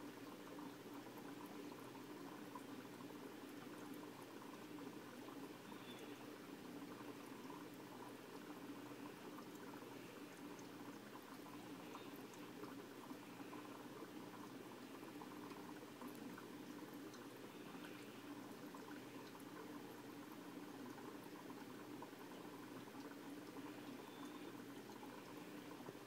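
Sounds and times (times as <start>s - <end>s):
aquarium water bubbling: 0.0s - 26.0s
low steady hum: 0.0s - 26.0s.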